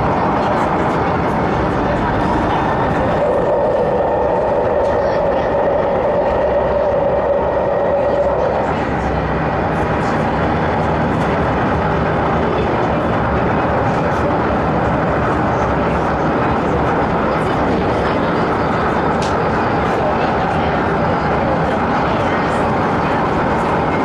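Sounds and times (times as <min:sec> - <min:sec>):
steady droning tone: 0:00.0 - 0:24.0
train wheels rumbling on rail: 0:00.0 - 0:24.0.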